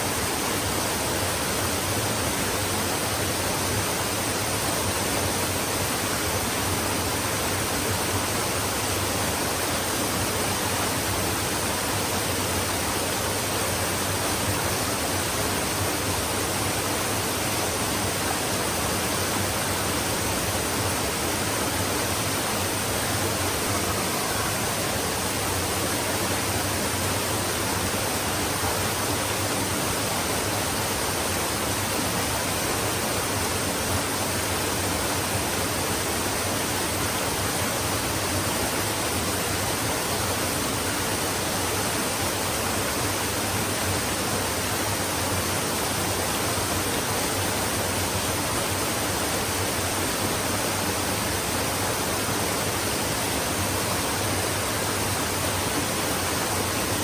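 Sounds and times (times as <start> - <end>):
stream running water: 0.0 - 57.0.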